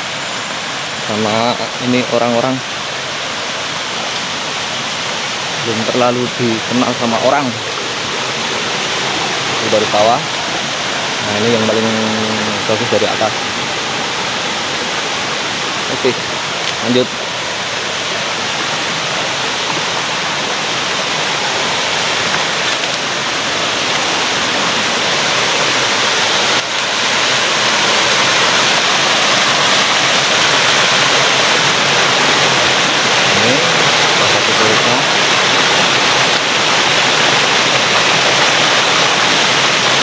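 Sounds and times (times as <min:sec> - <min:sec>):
waterfall and stream over rocks: 0:00.0 - 0:40.0.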